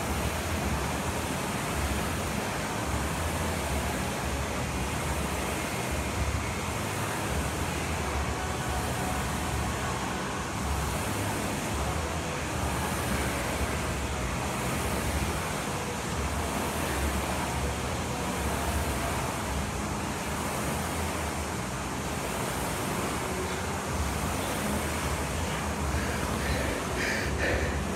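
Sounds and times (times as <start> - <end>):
fans humming and rushing air: 0.0 - 27.9.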